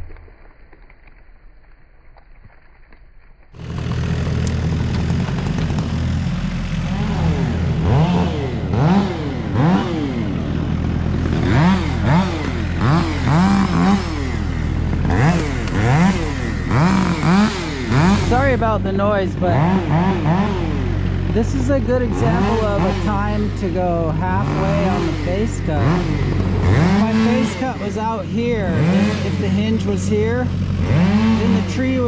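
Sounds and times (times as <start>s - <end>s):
chainsaw revving: 3.6s - 32.0s.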